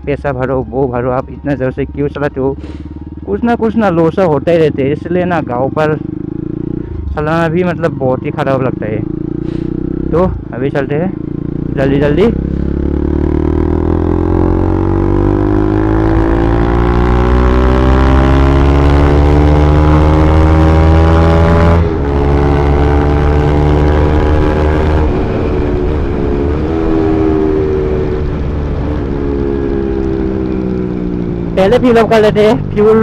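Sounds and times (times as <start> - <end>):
motorcycle engine accelerating: 0.6 - 33.0.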